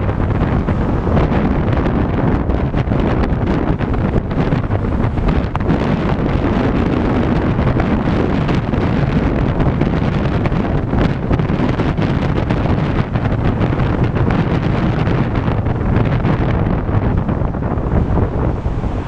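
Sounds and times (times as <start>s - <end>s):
tyre and road noise: 0.0s - 19.0s
wind rushing over microphone: 0.0s - 19.0s.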